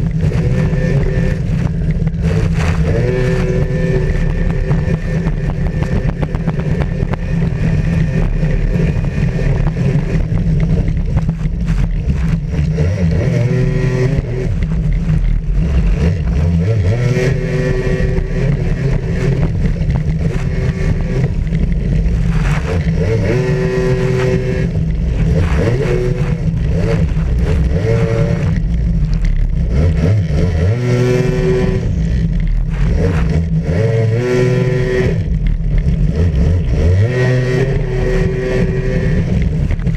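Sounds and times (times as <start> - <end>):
jet ski engine revving: 0.0 - 39.9.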